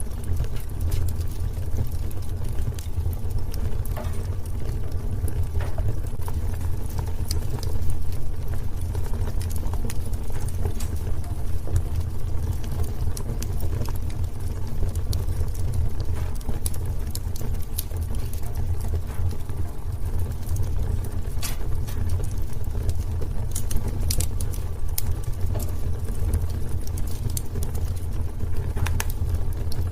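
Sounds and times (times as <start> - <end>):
fire flames rumbling: 0.0 - 29.9
wood crackling and popping: 0.0 - 29.9.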